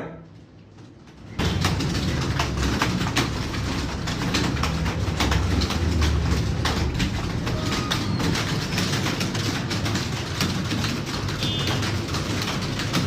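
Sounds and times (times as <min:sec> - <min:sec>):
keyboards clattering: 0:00.3 - 0:13.0.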